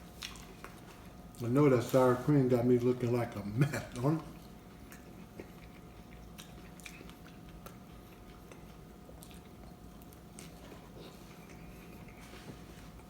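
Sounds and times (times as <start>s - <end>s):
person chewing food: 0.0s - 1.5s, 3.8s - 13.0s.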